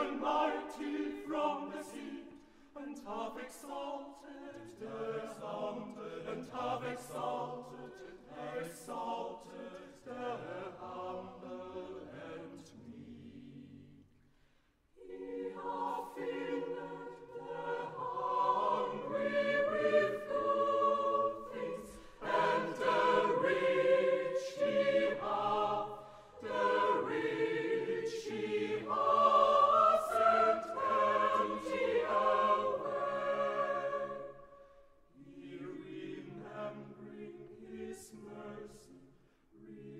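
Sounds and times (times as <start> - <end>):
choir singing a carol: 0.0 - 14.2, 14.9 - 39.9.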